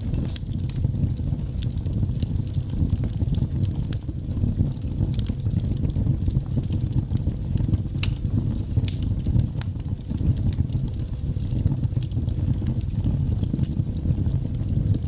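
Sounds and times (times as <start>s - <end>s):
fire crackling and popping: 0.0s - 15.0s
fire roaring: 0.0s - 15.0s.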